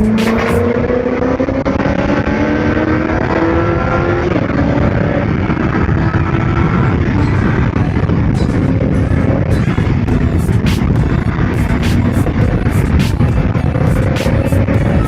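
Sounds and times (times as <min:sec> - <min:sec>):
engine accelerating hard: 0:00.0 - 0:15.0
wind rush: 0:00.0 - 0:15.0.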